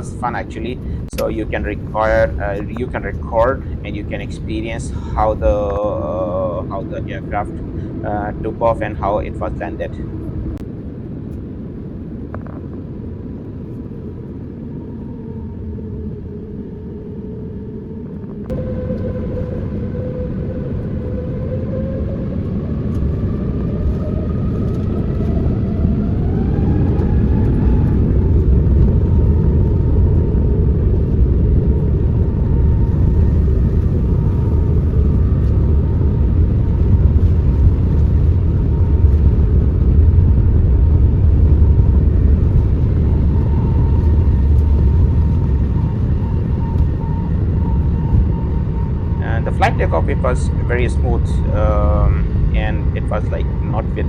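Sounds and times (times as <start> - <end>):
jet engines spooling up whine: 0.0 - 54.0
low engine rumble: 0.0 - 54.0.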